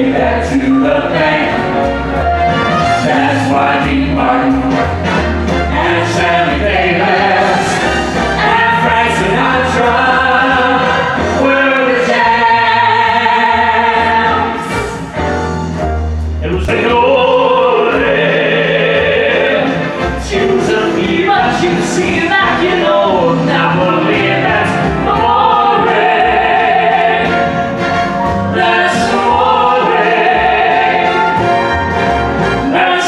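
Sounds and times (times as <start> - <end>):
several voices singing together: 0.0 - 1.9, 3.0 - 5.0, 5.6 - 14.9, 16.4 - 27.6, 28.5 - 31.4, 32.6 - 33.0
backing band bass notes: 0.0 - 33.0.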